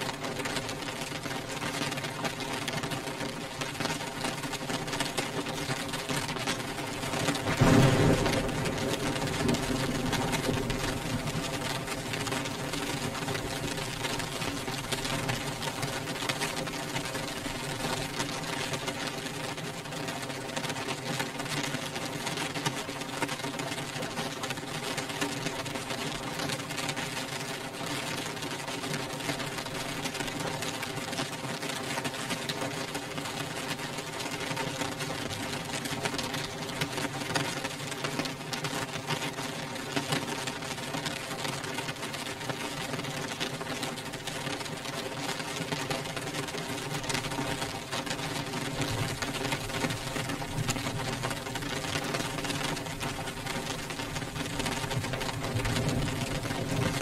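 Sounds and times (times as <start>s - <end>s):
rain on a window pane: 0.0s - 57.0s.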